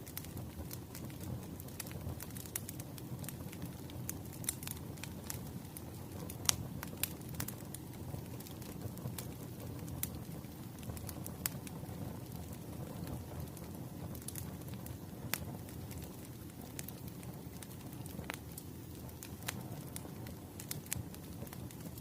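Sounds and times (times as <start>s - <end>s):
logs crackling and popping: 0.0s - 22.0s
wood fire rumbling: 0.0s - 22.0s.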